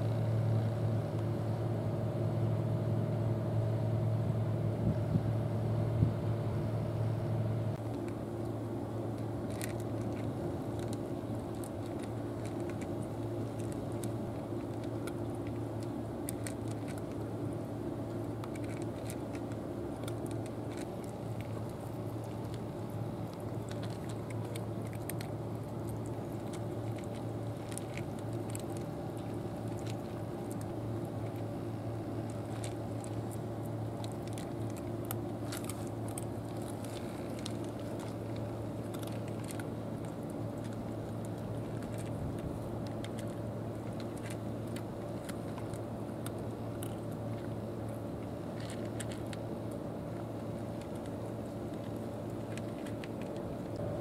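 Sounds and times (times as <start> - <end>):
steady low hum: 0.0 - 54.0
cats crunching dry kibble: 7.8 - 54.0.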